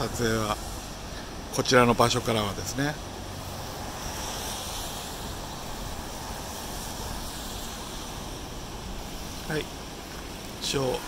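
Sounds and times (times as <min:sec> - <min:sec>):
wind rushing: 0:00.0 - 0:10.7
distant ocean surf breaking: 0:00.0 - 0:11.0.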